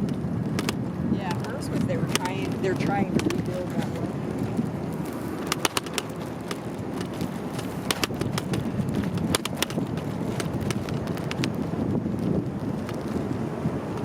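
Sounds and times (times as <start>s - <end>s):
bicycle rolling rumble: 0.0s - 14.0s
bike clicks and rattles: 0.0s - 14.0s.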